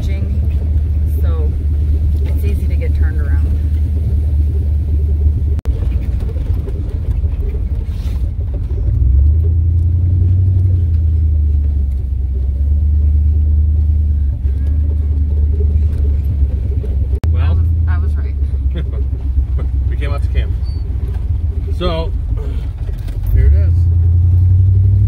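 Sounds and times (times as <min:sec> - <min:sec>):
engine and drivetrain rumble: 0:00.0 - 0:25.0.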